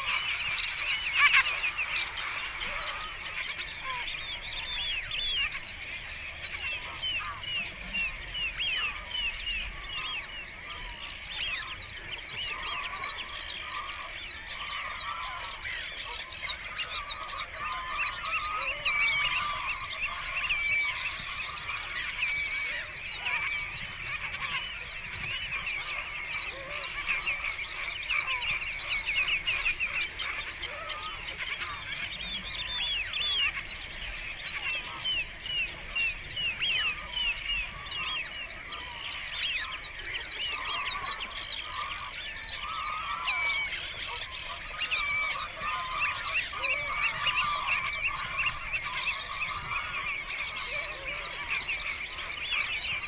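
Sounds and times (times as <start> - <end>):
flock of birds chirping: 0.0 - 53.0.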